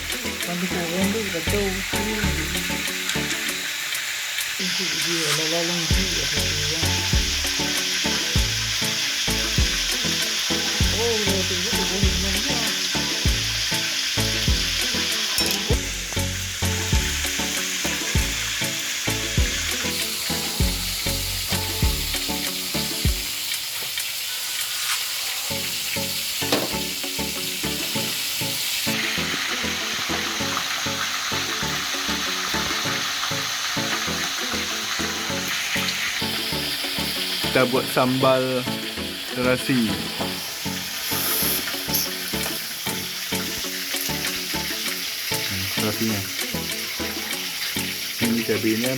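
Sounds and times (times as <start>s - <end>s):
food sizzling in hot oil: 0.0s - 48.9s.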